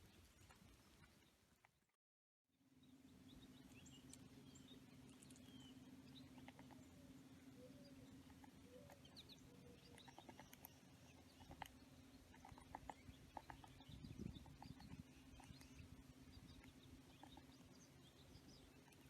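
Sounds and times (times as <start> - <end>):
steady low hum: 2.6 - 19.0
faint bird chirps: 2.7 - 19.0.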